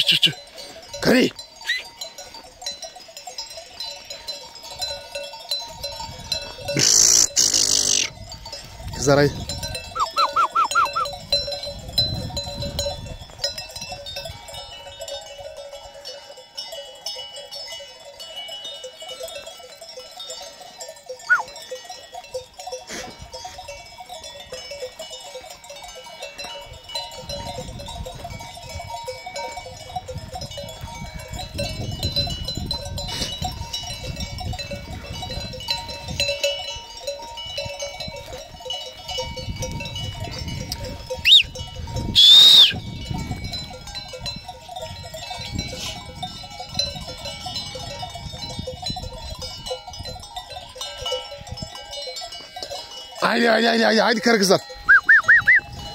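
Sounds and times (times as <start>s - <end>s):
sheep bells ringing and clanking: 0.0s - 55.9s.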